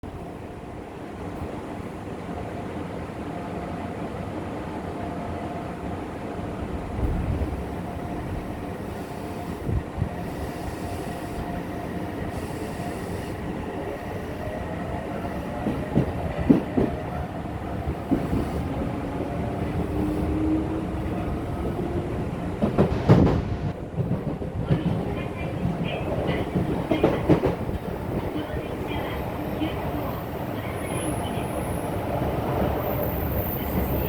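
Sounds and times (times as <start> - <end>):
train running rumble: 5.9 - 34.0.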